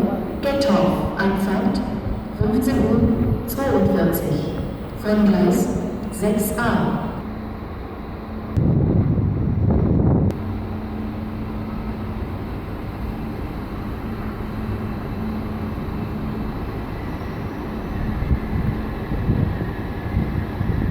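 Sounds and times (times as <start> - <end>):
stationary train humming and rumbling: 0.0 - 20.9.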